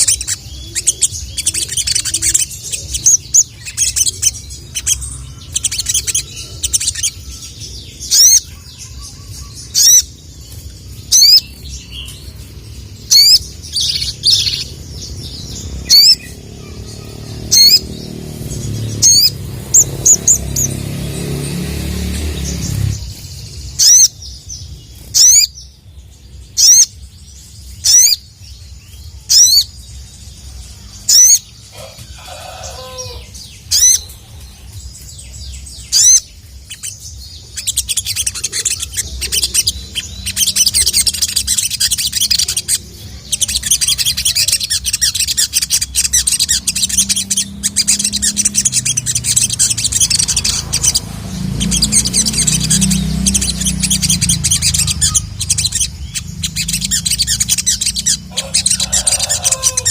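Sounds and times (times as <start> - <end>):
bird sharp high calls: 0.0 - 12.4, 13.0 - 25.6, 30.9 - 34.2, 35.6 - 59.9
bird fast chattering song: 0.0 - 32.2, 32.9 - 59.9.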